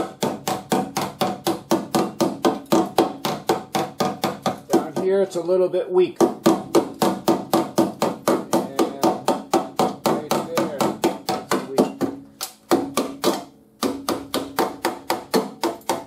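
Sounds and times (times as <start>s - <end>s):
hammer tapping sheet steel: 0.0s - 5.4s, 6.2s - 16.0s.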